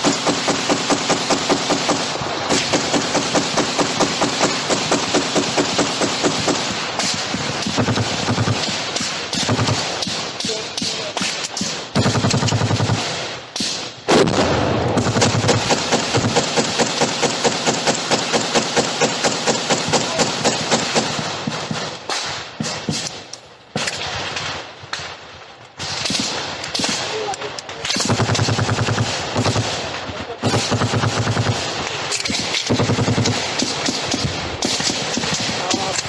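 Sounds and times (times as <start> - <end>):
automatic gunfire: 0.0 - 24.6, 25.8 - 36.0.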